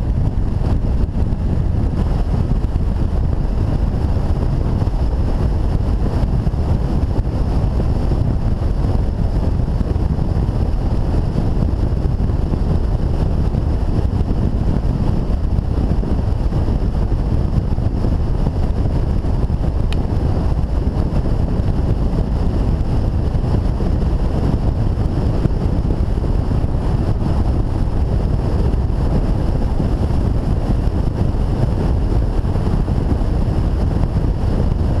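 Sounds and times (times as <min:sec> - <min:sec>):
wind rush on microphone: 0:00.0 - 0:35.0.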